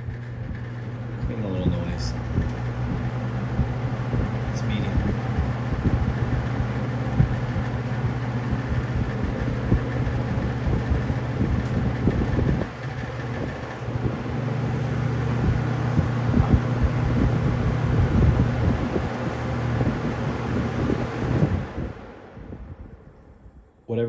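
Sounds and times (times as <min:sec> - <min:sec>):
fan rattle: 0:00.0 - 0:23.5
box fan humming: 0:00.0 - 0:24.0.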